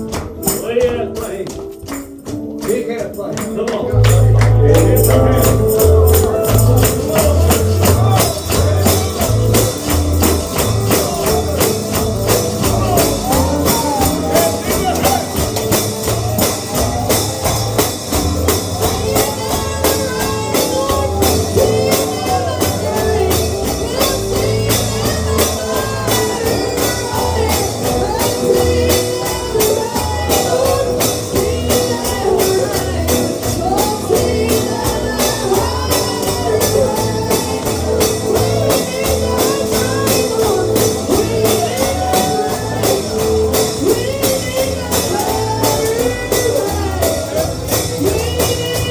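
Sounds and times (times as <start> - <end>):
guitar: 0.0 - 48.9
tambourine beat: 0.0 - 48.9
walking bass: 0.0 - 48.9.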